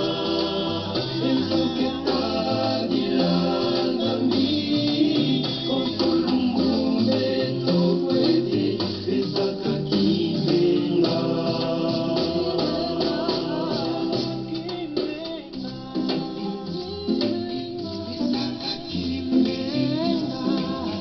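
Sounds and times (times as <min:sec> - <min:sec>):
person singing: 0:00.0 - 0:21.0
shaken percussion beat: 0:00.0 - 0:21.0.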